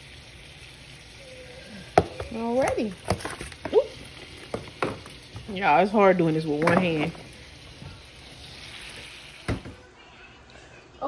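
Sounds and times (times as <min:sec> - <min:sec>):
potatoes sizzling in butter: 0:00.0 - 0:10.0.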